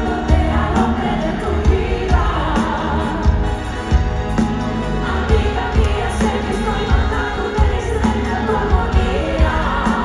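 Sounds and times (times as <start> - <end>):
live pop band playing: 0.0 - 10.0
steady drum beat: 0.0 - 10.0.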